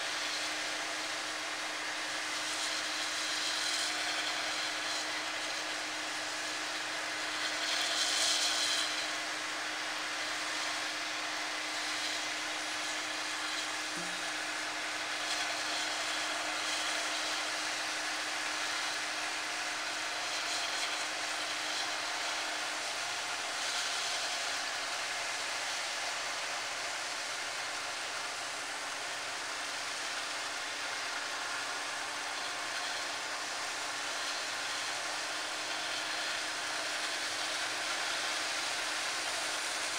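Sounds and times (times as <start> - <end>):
harvest machine engine and fan: 0.0 - 39.9.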